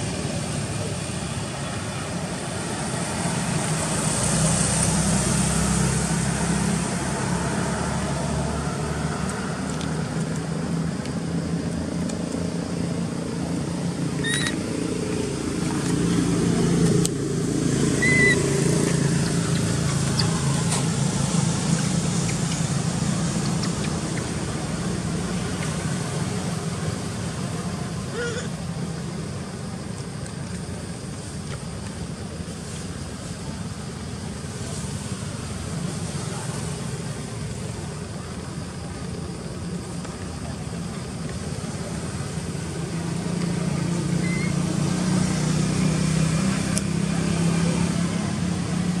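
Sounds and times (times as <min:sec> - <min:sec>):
engine hum: 0:00.0 - 0:49.0.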